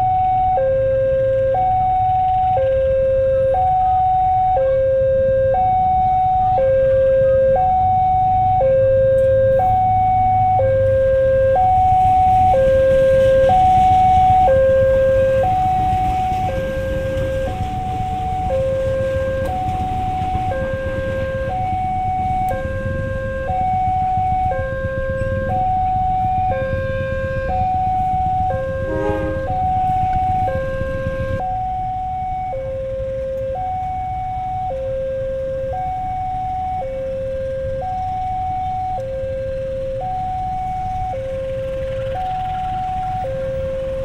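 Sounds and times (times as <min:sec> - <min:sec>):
two-tone electronic alarm: 0:00.0 - 0:44.0.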